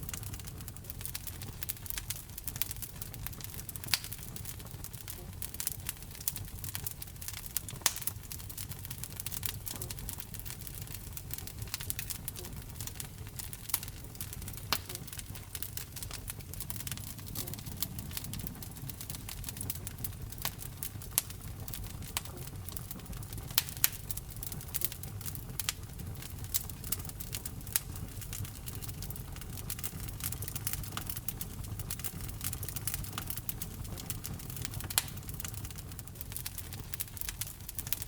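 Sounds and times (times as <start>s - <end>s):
fire crackling and popping: 0.0s - 38.0s
low rumble of flames: 0.0s - 38.0s.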